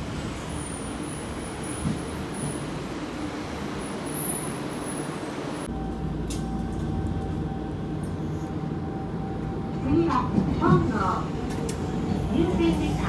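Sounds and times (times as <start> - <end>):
train wheels rumbling and squealing: 0.0 - 13.0.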